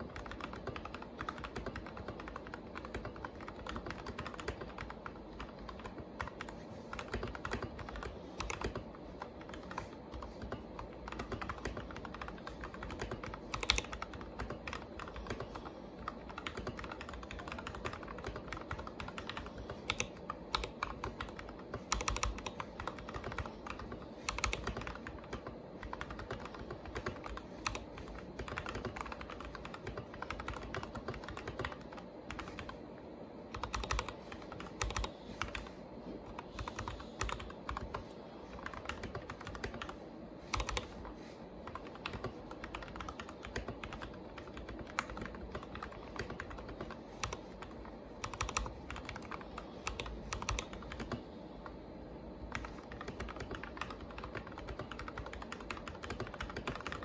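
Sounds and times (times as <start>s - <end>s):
mechanical keyboard clacking: 0.0s - 32.8s, 33.5s - 35.7s, 36.3s - 38.0s, 38.6s - 40.9s, 41.6s - 51.2s, 52.5s - 57.0s.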